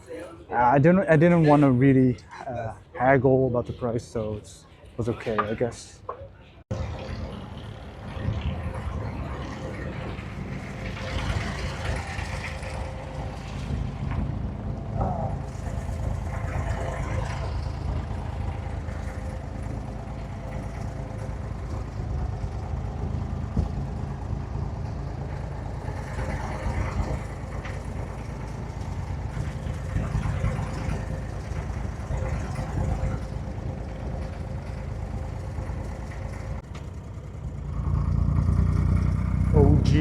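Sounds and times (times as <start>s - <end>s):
boat engine idling: 6.7s - 40.0s.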